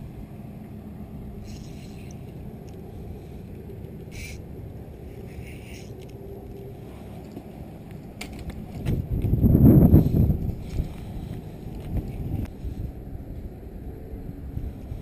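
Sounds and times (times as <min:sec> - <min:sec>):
wind rumbling on microphone: 0:01.1 - 0:15.0.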